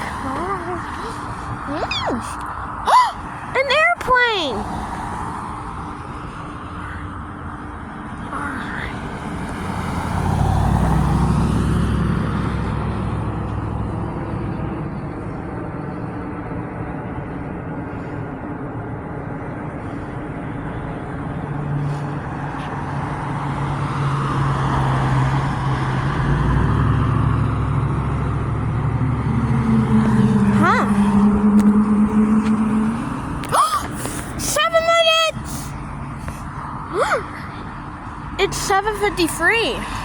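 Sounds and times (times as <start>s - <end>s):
vehicle engines passing: 0.0s - 40.0s.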